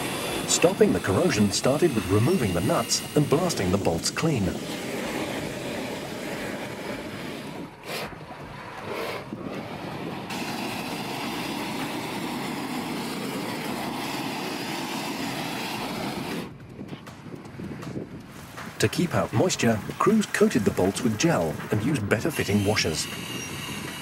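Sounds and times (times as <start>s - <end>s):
high-pressure jet hissing: 0.0s - 8.1s, 10.3s - 16.5s, 18.9s - 24.0s.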